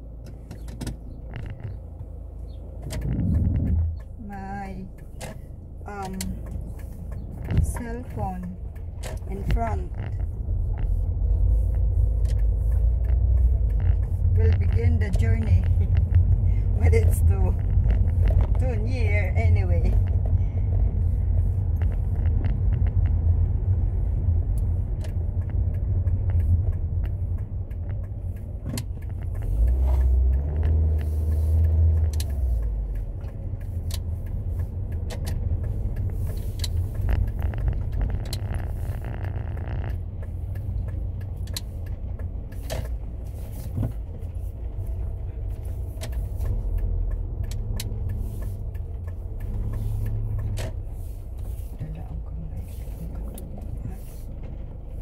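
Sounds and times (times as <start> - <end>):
engine and road noise rumble: 0.0 - 55.0
sharp ticks: 0.2 - 52.1.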